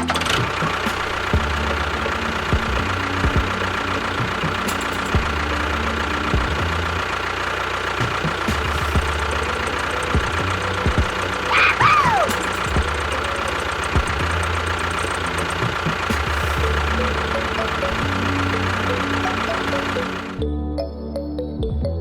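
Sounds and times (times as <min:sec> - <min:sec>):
small machine running: 0:00.0 - 0:20.4
falling whine: 0:00.0 - 0:20.5.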